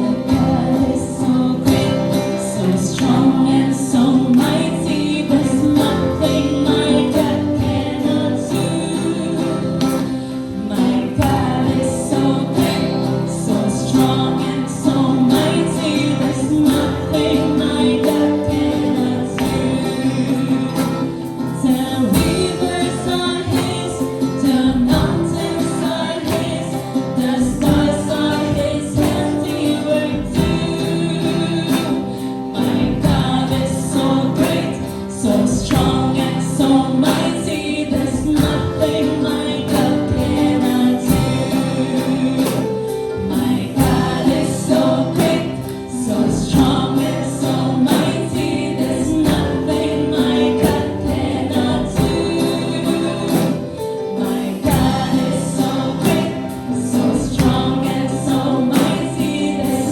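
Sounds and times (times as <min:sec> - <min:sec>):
band with steady beat: 0:00.0 - 0:59.9
group singing worship song: 0:00.0 - 0:59.9.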